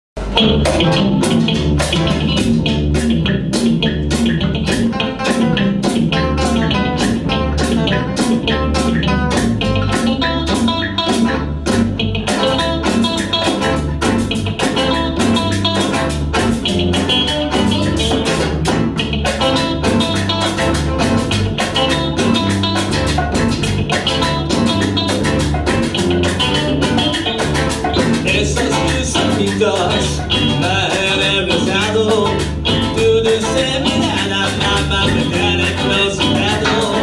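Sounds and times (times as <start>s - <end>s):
electric bass: 0.1s - 37.0s
congas: 0.2s - 37.0s
drums: 0.2s - 37.0s
electric guitar melody: 0.2s - 37.0s.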